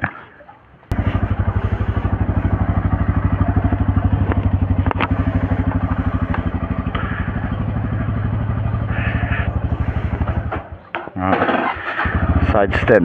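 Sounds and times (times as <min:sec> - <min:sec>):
motorcycle engine starting and idling: 0:00.9 - 0:13.0.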